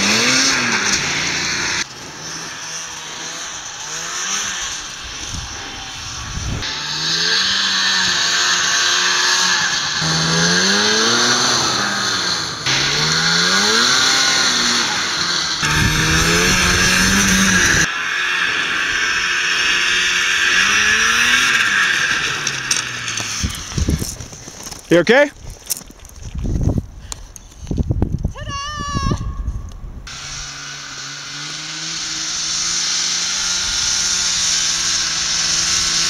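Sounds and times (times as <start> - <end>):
snowmobile engine revving: 0.0 - 25.3, 30.0 - 36.0.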